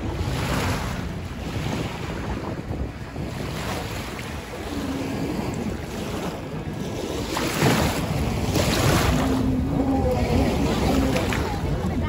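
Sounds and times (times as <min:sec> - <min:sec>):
small waves lapping: 0:00.0 - 0:12.0
wind on microphone: 0:00.0 - 0:12.0.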